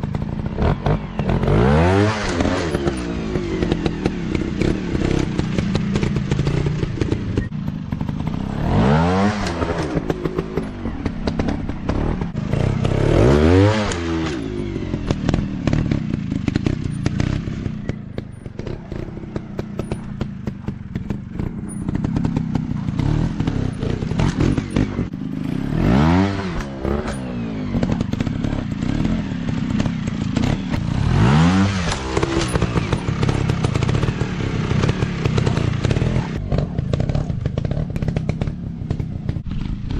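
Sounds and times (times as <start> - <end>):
dirt bike engines revving: 0.0 - 39.9
knocks and clatter: 2.2 - 25.2, 26.4 - 39.9.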